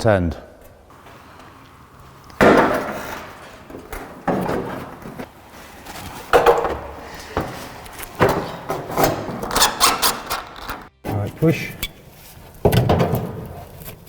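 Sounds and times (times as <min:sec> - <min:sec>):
steel panels clunking: 0:00.6 - 0:13.8.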